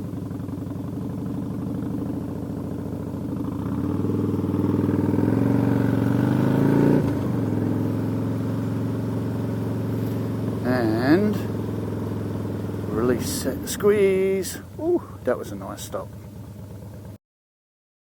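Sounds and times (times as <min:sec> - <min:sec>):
motorcycle engine accelerating: 0:00.0 - 0:17.2.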